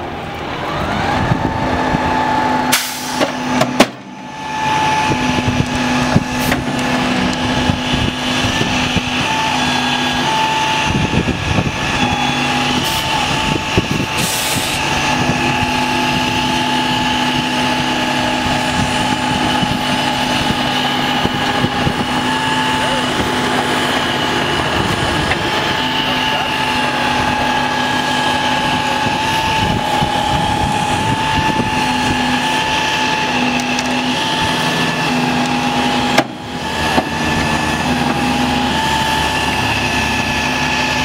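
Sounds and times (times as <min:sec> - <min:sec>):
diesel engine revving with whine: 0:00.0 - 0:41.0.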